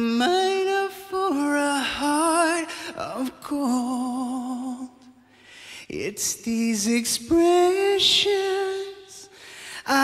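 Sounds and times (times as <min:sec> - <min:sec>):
man singing with vibrato: 0:00.0 - 0:10.0.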